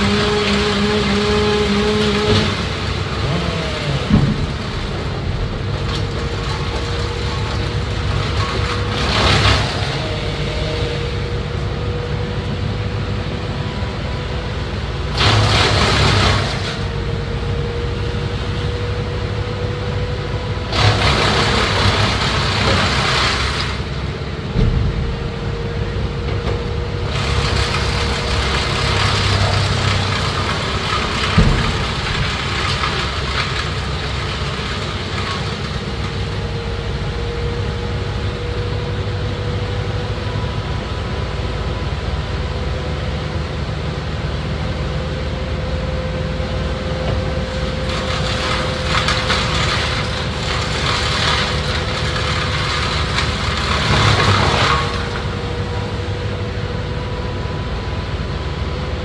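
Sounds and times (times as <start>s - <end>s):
tree-cutting machine engine: 0.0s - 59.0s.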